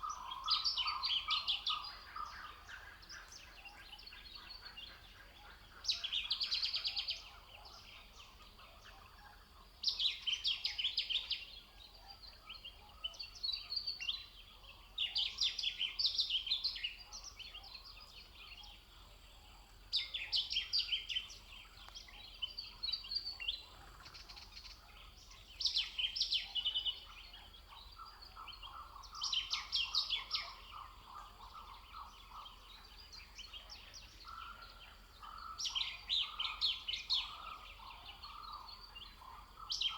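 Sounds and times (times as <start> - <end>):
low steady bird trill: 0.0 - 39.9.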